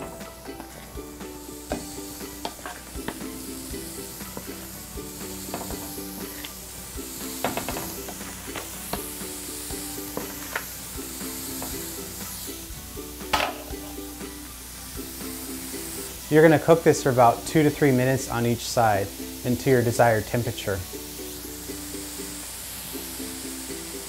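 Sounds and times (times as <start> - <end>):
patties sizzling on a griddle: 0.0 - 24.0
soft background music: 0.0 - 24.0.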